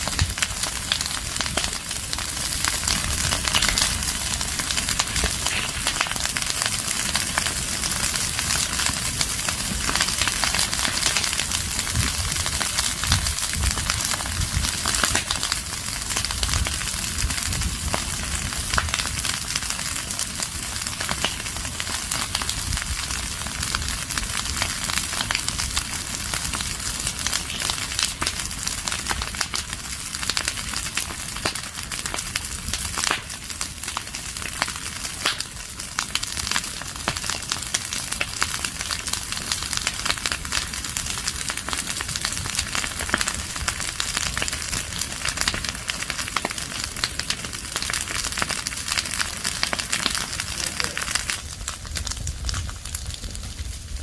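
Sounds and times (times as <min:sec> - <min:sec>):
leaves and twigs crackling in fire: 0:00.0 - 0:54.0.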